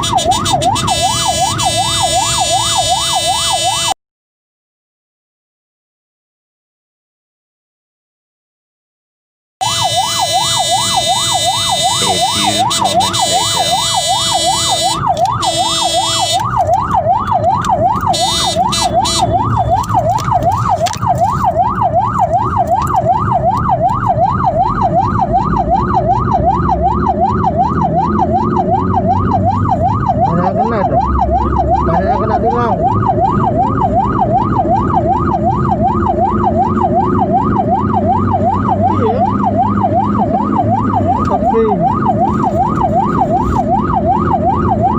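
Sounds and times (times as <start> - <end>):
vehicles rumbling: 0.0 - 3.7, 9.6 - 44.9
emergency siren yelping: 0.0 - 4.0, 9.6 - 44.9.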